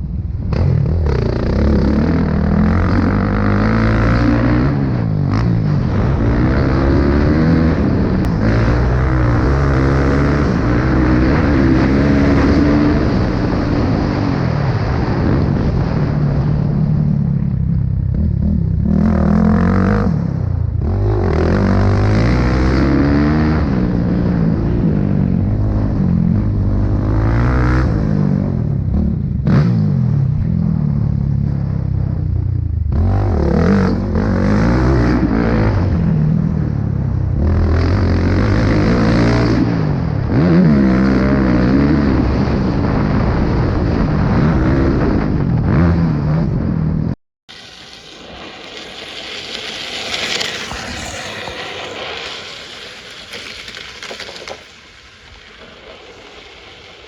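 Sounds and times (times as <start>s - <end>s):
small motorcycle engines revving: 0.0s - 46.7s, 47.5s - 57.0s.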